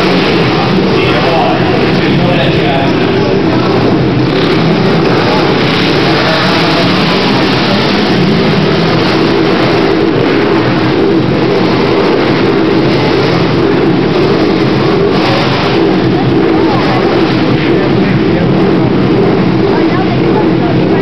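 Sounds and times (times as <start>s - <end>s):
racing quad engines revving: 0.0s - 21.0s.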